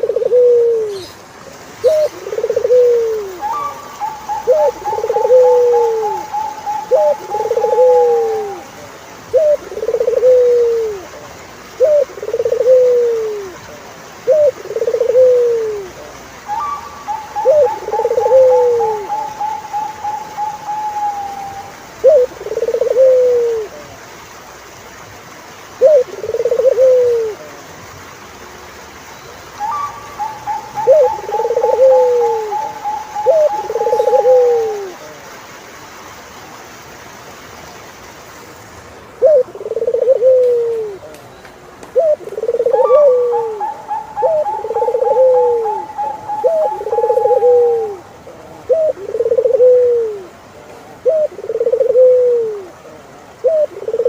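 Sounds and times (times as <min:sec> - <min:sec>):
turtle doves cooing: 0:00.0 - 0:24.0, 0:25.7 - 0:27.7, 0:29.5 - 0:35.2, 0:39.0 - 0:41.2, 0:41.9 - 0:54.0.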